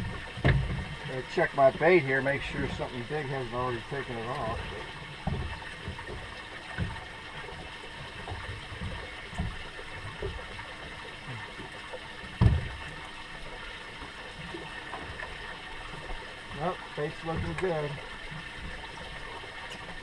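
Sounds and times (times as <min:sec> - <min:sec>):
water lapping against boat hull: 0:00.0 - 0:20.0.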